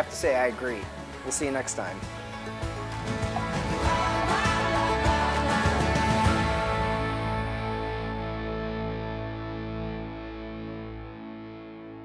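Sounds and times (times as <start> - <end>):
closing theme music chord ringing: 0.0 - 12.0.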